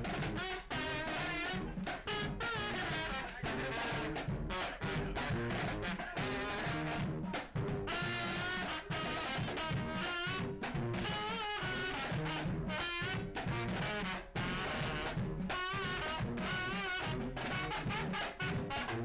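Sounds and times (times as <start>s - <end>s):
brass music: 0.0s - 19.0s
drum beat: 0.0s - 19.0s.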